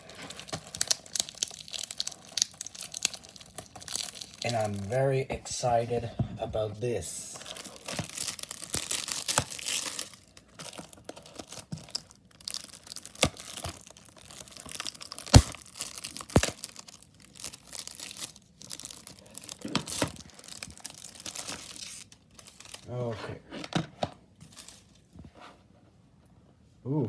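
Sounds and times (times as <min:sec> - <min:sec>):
plastic wrapping tearing and crinkling: 0:00.0 - 0:05.9, 0:07.2 - 0:23.1.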